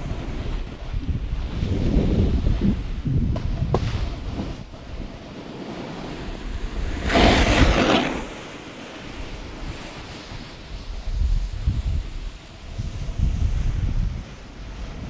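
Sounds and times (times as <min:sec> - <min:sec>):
snowboard edge scraping snow: 0:00.0 - 0:15.0
wind buffeting microphone: 0:00.0 - 0:15.0.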